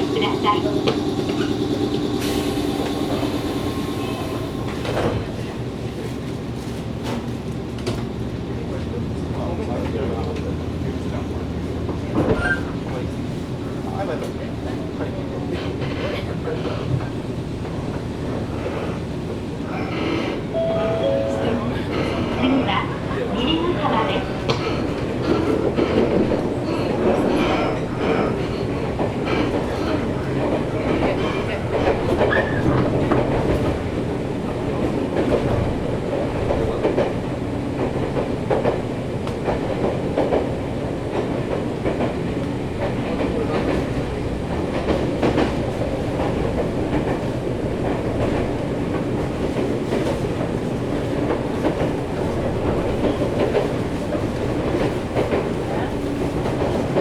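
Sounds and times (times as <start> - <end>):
train wheels rumbling on rail: 0.0 - 20.8, 21.9 - 57.0.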